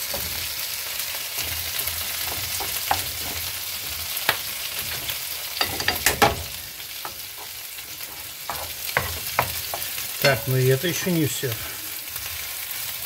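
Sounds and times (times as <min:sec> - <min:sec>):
wooden spatula scraping a pan: 0:00.0 - 0:11.1
frying sizzle: 0:00.0 - 0:13.0.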